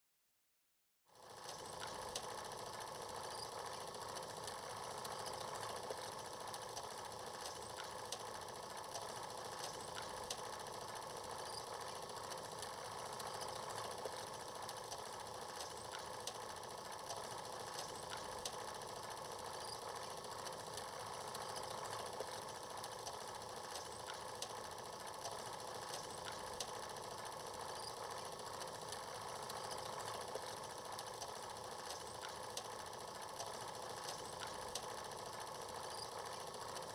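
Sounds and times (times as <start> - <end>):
film projector whirring: 1.1 - 36.9.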